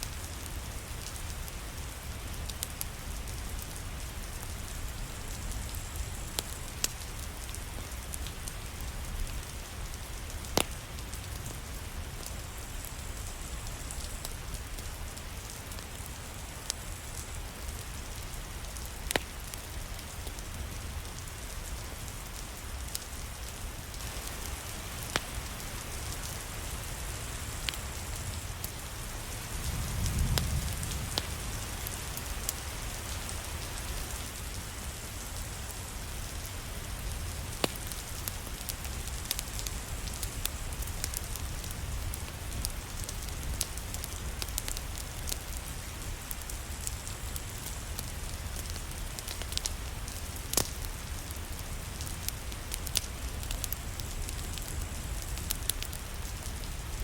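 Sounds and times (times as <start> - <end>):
rain falling: 0.0 - 57.0
wood fire crackling and popping: 0.0 - 57.0.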